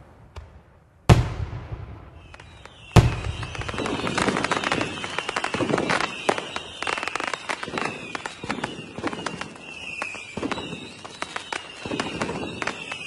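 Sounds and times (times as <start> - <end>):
fireworks bangs and crackling: 0.0 - 13.0
falling whistle of fireworks: 1.2 - 13.0.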